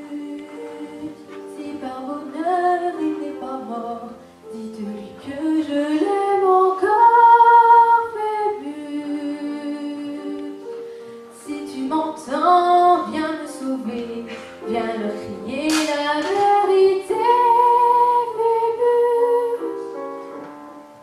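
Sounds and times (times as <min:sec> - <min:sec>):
girl singing slow melody: 0:00.0 - 0:20.9
instrumental accompaniment: 0:00.0 - 0:21.0.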